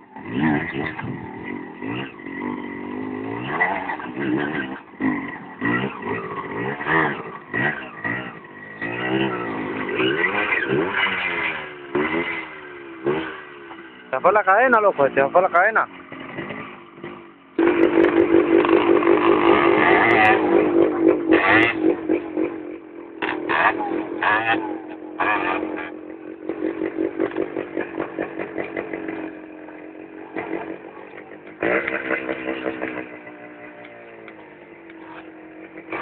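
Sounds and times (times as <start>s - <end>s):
motorcycle engine pulsing: 0.0s - 36.0s.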